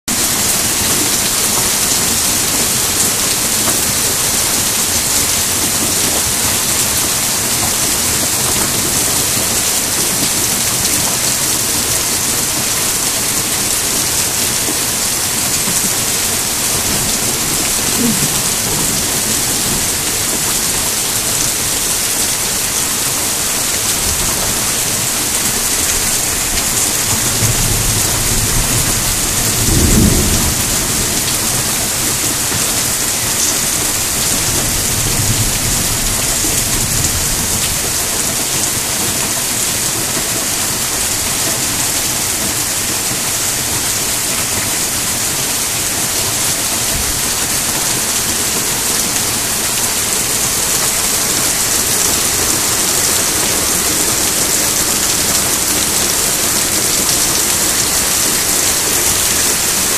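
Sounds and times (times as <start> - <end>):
hard rain pouring: 0.0 - 59.9.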